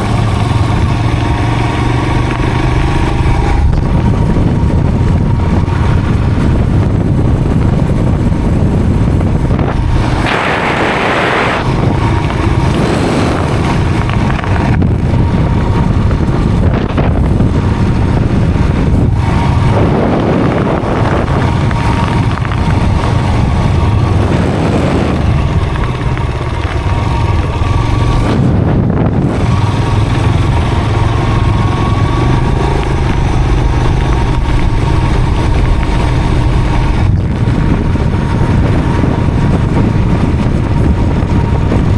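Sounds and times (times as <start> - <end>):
rushes of noise: 0.0 - 41.9
vehicle engine running: 0.0 - 41.9.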